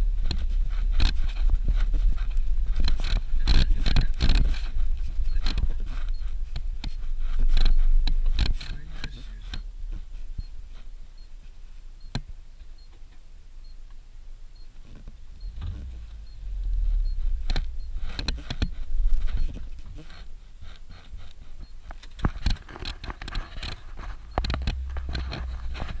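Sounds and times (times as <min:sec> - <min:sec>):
vehicle rumble on dirt road: 0:00.0 - 0:26.0.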